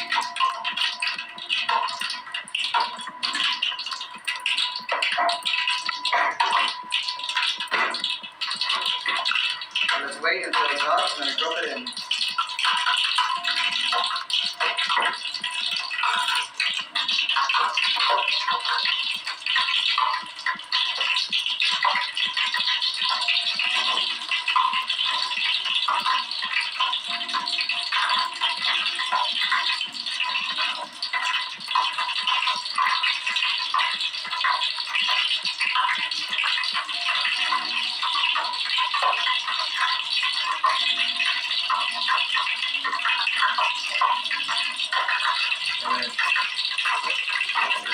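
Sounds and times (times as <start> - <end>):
oil sizzling in a pan: 0.0 - 47.9.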